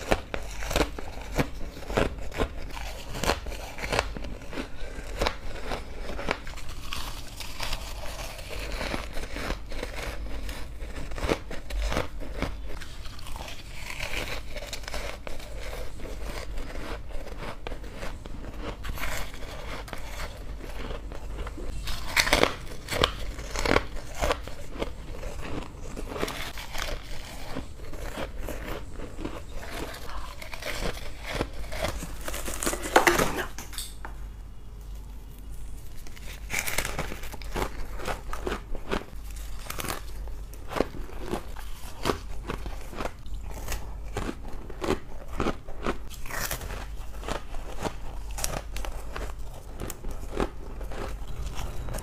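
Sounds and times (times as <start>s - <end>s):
crunching ice with teeth: 0.0s - 33.6s, 36.0s - 52.0s.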